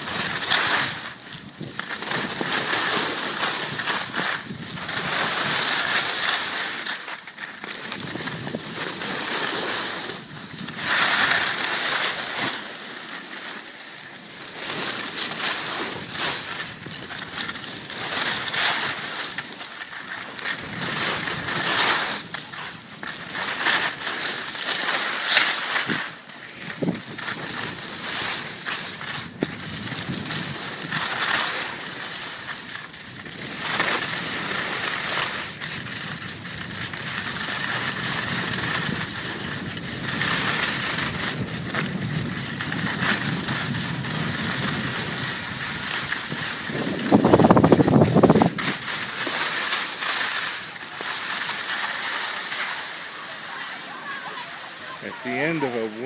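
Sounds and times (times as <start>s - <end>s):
skis scraping over snow: 0.0s - 56.0s.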